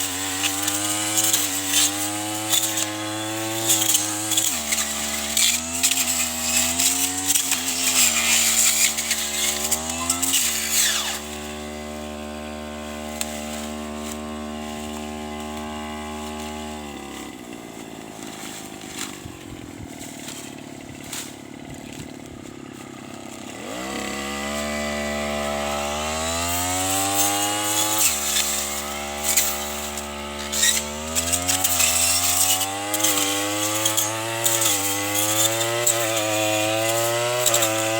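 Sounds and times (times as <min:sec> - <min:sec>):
brush cutter engine revving: 0:00.0 - 0:37.9
cutting head crackling through grass: 0:00.0 - 0:37.9.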